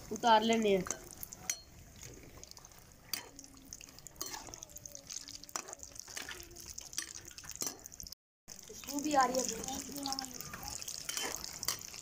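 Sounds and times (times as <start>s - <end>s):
oil sizzling with pops: 0.0s - 12.0s.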